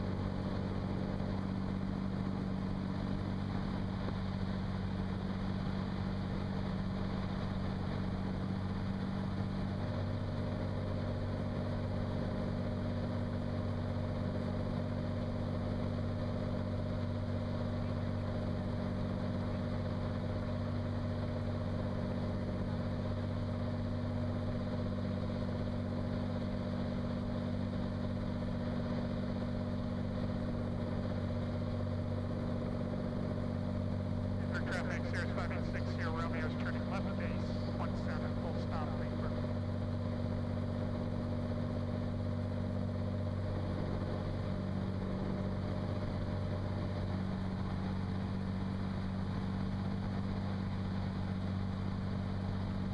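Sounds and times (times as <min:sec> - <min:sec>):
airplane engine and propeller droning: 0:00.0 - 0:52.9.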